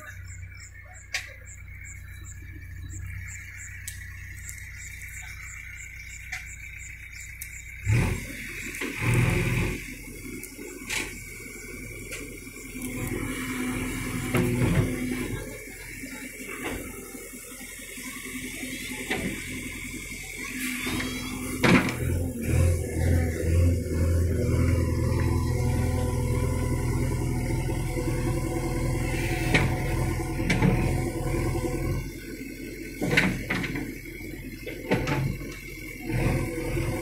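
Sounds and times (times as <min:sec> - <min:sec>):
diesel engine running: 0:00.0 - 0:37.0
hydraulics under load: 0:00.0 - 0:37.0.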